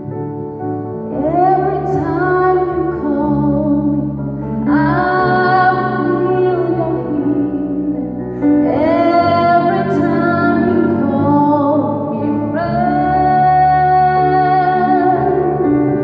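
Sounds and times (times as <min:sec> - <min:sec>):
keyboard accompaniment: 0:00.0 - 0:16.0.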